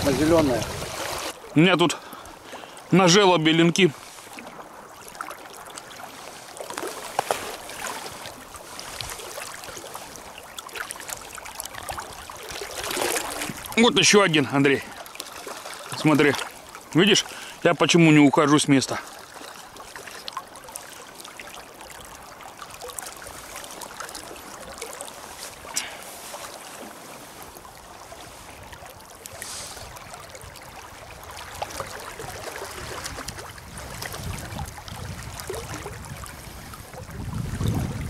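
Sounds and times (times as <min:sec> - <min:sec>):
river water running: 0:00.0 - 0:38.0.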